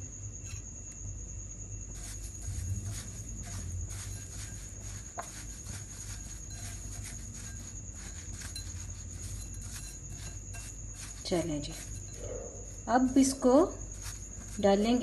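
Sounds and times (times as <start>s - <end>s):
breadcrumbs crunching and rustling: 1.9s - 15.0s.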